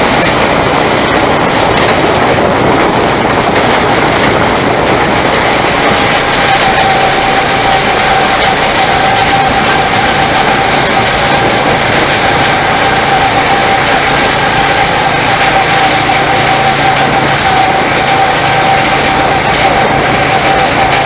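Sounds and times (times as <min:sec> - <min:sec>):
go-kart engine running: 0:00.0 - 0:21.0.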